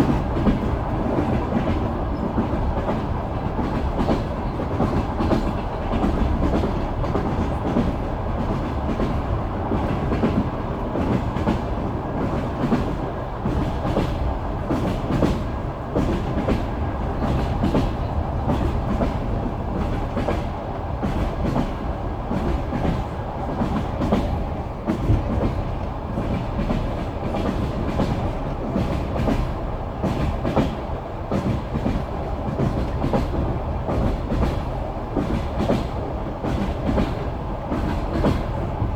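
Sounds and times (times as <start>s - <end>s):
train carriage rumbling: 0.0s - 38.9s.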